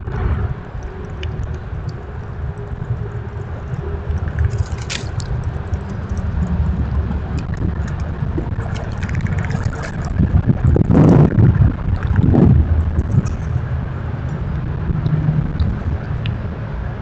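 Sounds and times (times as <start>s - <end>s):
low rumbling microphone noise: 0.0s - 17.0s.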